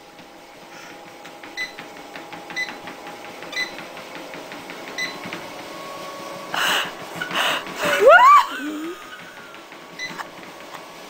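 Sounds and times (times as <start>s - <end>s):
treadmill belt clicking: 0.0s - 11.0s
treadmill motor whine: 0.0s - 11.0s.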